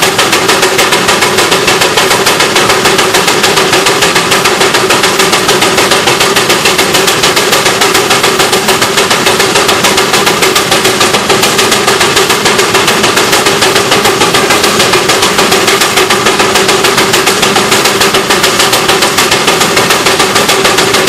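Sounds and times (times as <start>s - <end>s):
steam engine exhaust chuffing: 0.0s - 21.0s.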